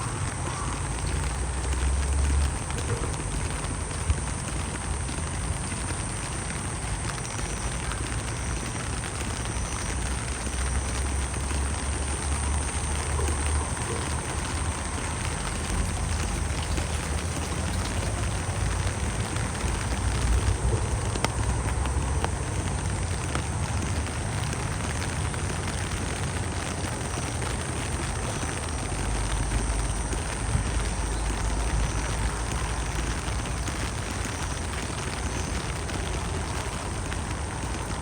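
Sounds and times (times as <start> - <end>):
constant low rumble: 0.0 - 38.0
steady rain falling: 0.0 - 38.0.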